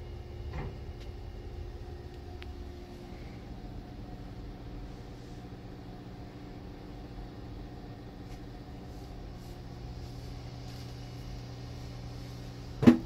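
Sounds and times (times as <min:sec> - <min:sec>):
train running hum: 0:00.0 - 0:13.0.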